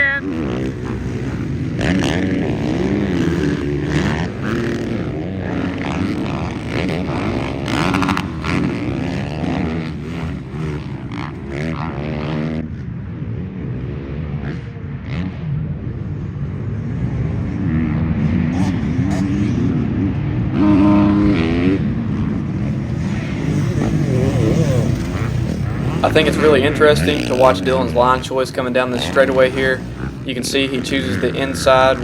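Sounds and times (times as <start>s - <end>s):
dirt bikes racing past: 0.0s - 32.0s.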